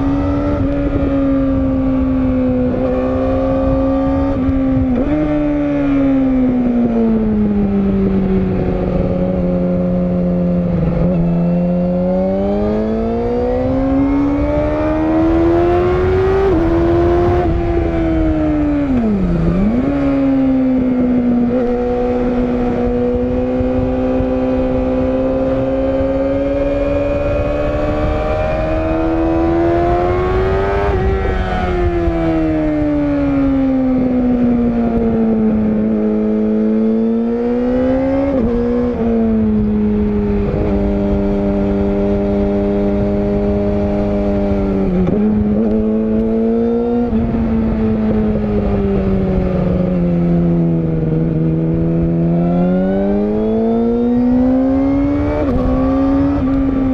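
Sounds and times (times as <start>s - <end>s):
motorcycle engine revving: 0.0s - 56.9s
wind and road noise: 0.0s - 56.9s.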